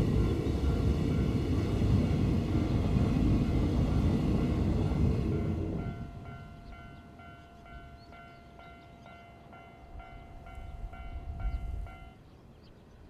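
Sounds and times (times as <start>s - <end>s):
freight train rumble: 0.0s - 13.0s
wind: 0.0s - 13.0s.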